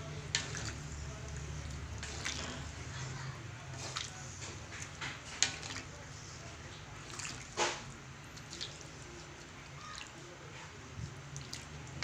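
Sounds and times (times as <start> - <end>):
porridge sloshing and squelching: 0.0 - 12.0.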